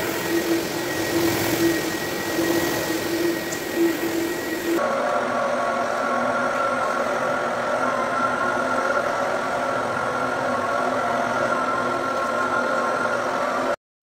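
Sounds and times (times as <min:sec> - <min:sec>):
buffer pad scrubbing wet floor: 0:00.0 - 0:13.7
floor buffer motor hum: 0:00.0 - 0:13.8.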